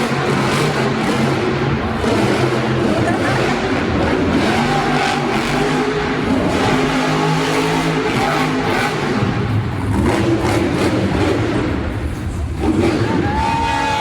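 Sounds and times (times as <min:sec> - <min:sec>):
truck engine revving loudly: 0:00.0 - 0:14.0.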